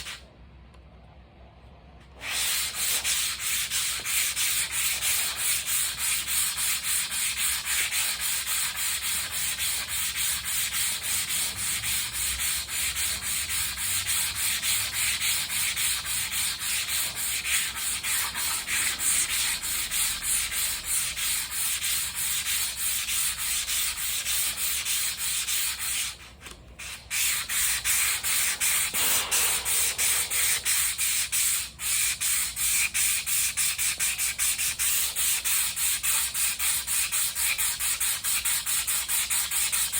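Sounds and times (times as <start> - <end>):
sandpaper rubbing: 2.2 - 39.9.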